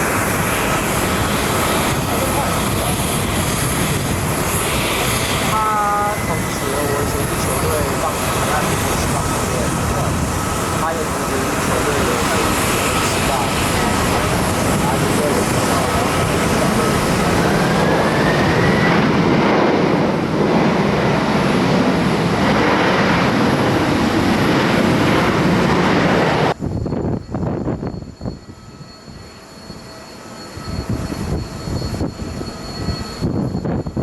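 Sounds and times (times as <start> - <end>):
distant jet rumble: 0.0 - 34.0
faint rising jet whine: 0.0 - 34.0
jet airliner passing close: 0.0 - 34.0.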